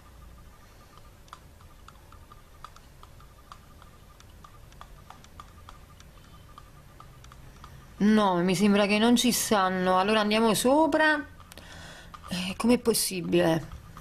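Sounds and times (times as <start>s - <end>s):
faint low hum: 0.0s - 14.0s
scroll-wheel ticks: 0.0s - 14.0s
computer mouse clicking: 0.1s - 14.0s.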